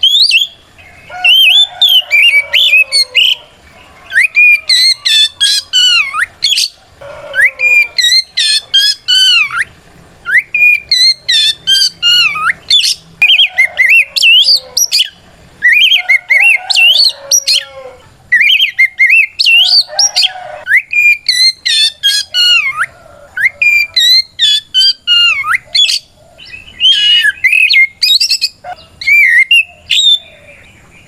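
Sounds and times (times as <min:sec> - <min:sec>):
bird singing whistled phrases: 0:00.0 - 0:00.6, 0:01.2 - 0:06.8, 0:07.4 - 0:17.7, 0:18.3 - 0:30.6.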